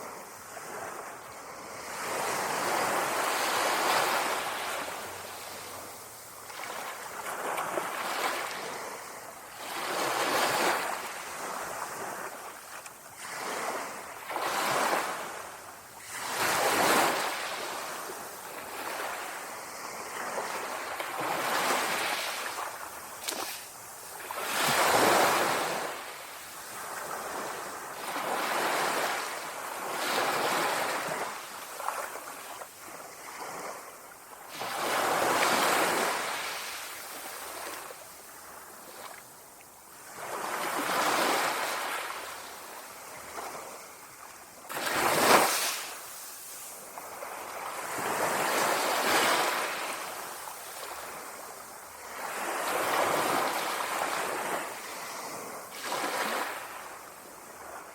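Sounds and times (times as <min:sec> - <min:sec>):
small waves lapping on shore: 0:00.0 - 0:57.9.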